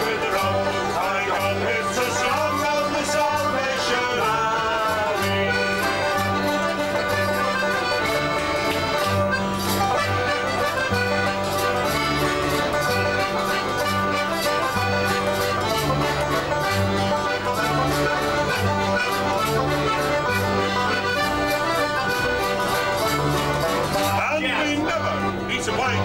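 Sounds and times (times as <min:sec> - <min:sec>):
acoustic guitar: 0:00.0 - 0:26.0
banjo: 0:00.0 - 0:26.0
button accordion: 0:00.0 - 0:26.0
steady bass line: 0:00.0 - 0:26.0.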